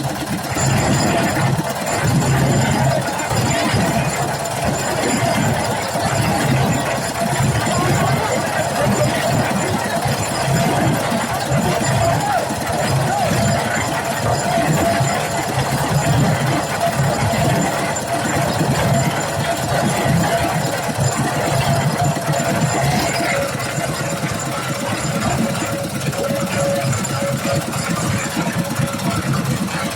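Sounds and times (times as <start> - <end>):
construction machinery engine running: 0.0 - 29.9.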